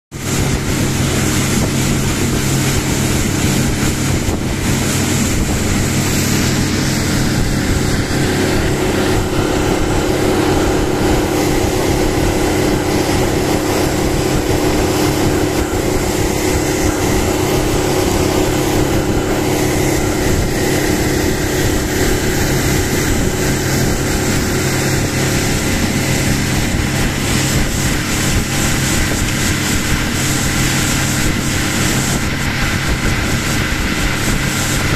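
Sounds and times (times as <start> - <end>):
motorboat engine running: 0.1 - 34.9
wind and water rushing: 0.1 - 34.9.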